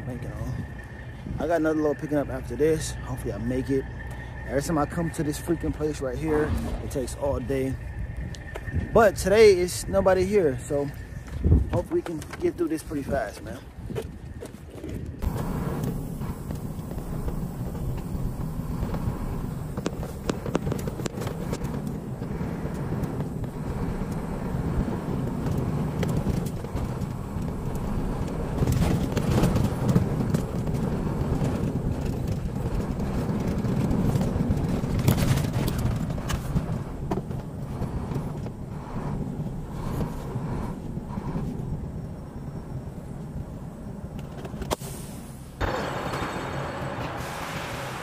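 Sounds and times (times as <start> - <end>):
diesel engine low rumble: 0.0 - 14.3, 15.2 - 48.0.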